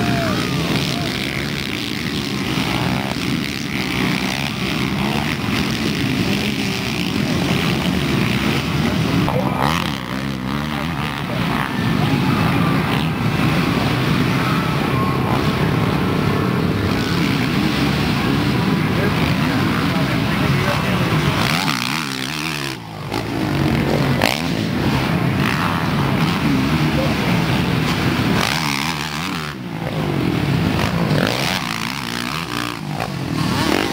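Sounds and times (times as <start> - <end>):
dirt bike engines revving: 0.0 - 33.9.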